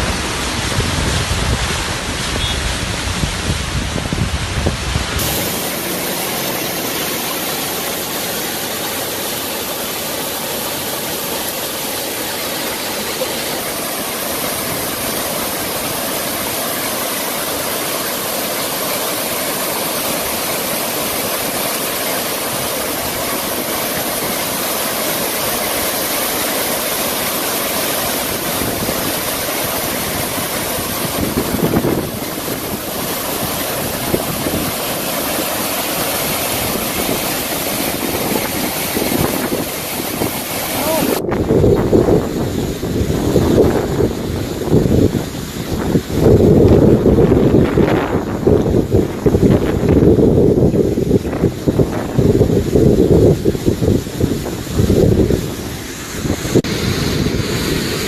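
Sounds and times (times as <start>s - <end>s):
heavy rain and hail: 0.0s - 58.0s.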